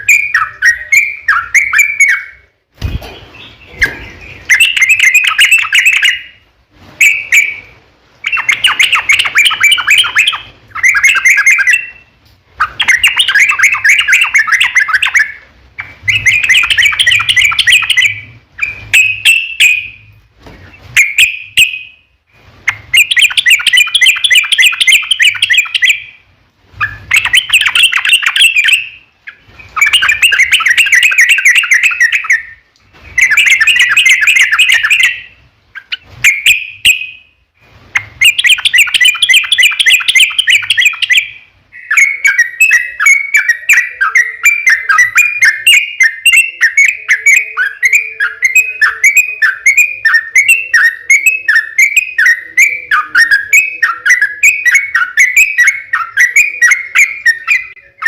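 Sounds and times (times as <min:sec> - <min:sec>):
bird singing bubbling song: 0:00.0 - 0:06.4, 0:07.0 - 0:20.2, 0:22.6 - 0:26.2, 0:26.8 - 0:37.3, 0:37.9 - 0:58.0.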